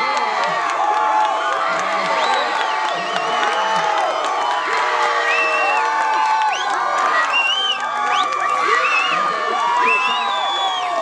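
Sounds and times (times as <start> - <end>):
crowd cheering and shouting: 0.0 - 11.0.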